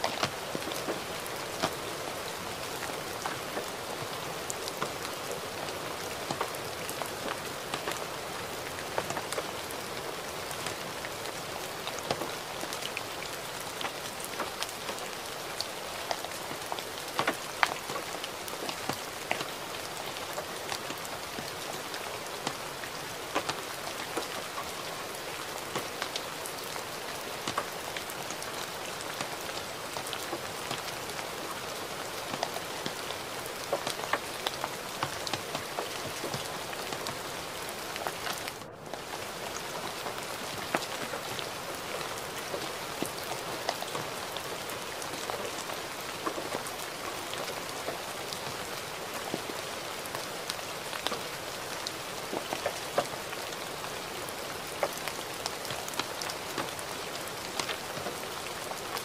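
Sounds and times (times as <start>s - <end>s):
gentle rain: 0.0s - 59.0s
raindrops ticking: 0.0s - 59.0s.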